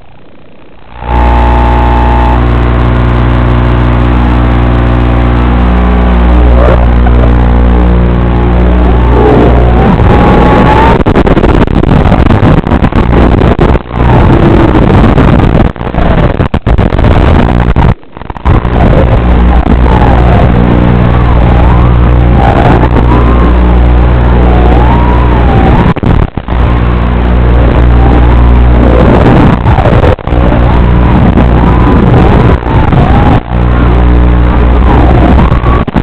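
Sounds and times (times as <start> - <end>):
steady low buzz: 0.0 - 36.0.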